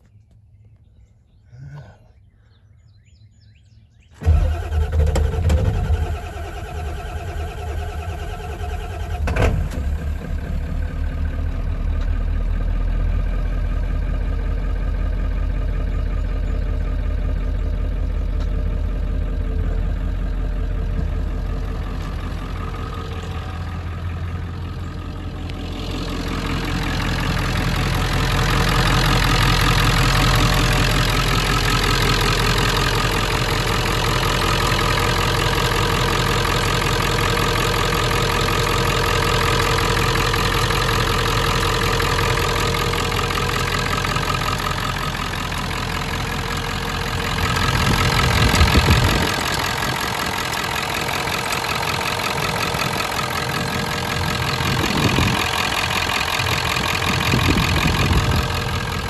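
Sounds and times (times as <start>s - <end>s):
diesel engine idling: 1.8s - 59.0s.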